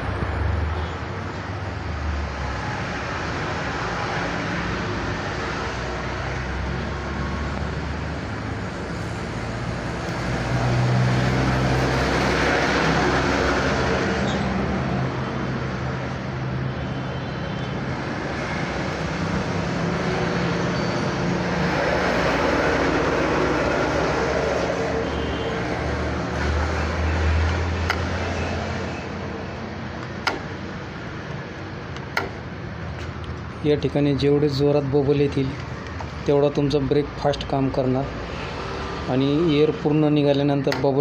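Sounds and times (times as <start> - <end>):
road traffic: 0.0 - 41.0
vehicles passing: 0.0 - 41.0.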